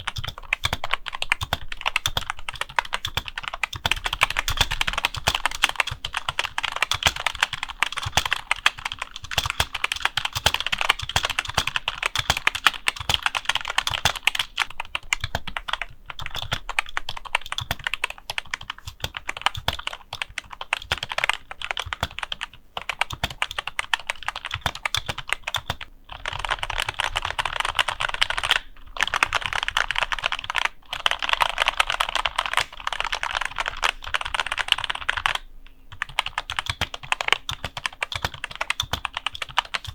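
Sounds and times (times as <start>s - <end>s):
keyboard typing clatter: 0.0s - 39.9s.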